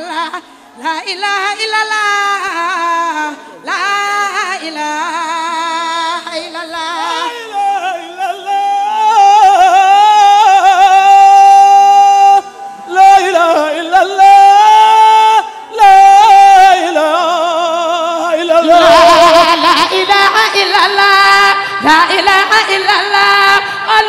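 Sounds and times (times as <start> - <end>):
person singing unaccompanied chant: 0.0 - 24.0.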